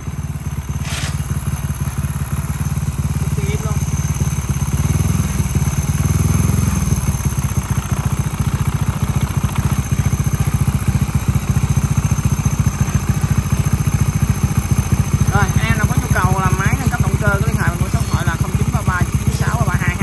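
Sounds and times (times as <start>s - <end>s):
motorbike engine idling: 0.0s - 20.0s.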